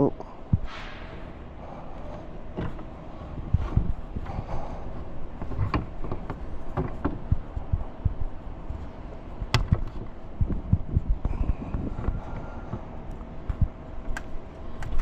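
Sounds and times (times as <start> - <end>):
low thumps: 0.4 - 14.1.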